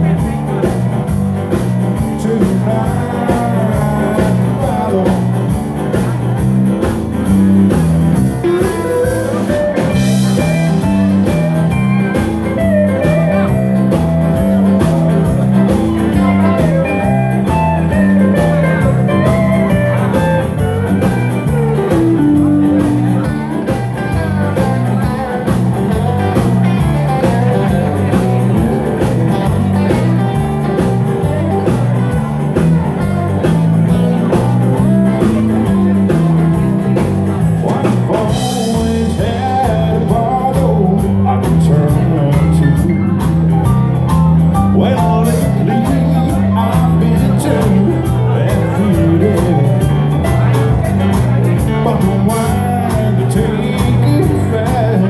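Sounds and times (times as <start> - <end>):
bouncing bass line: 0.0 - 55.0
electric guitar lead: 0.0 - 55.0
live rock and roll band: 0.0 - 55.0.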